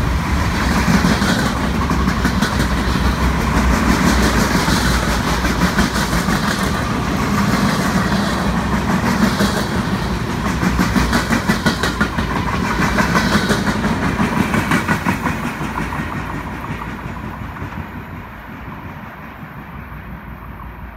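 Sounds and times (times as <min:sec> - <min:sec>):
train wheels clacking over rail joints: 0:00.0 - 0:20.8.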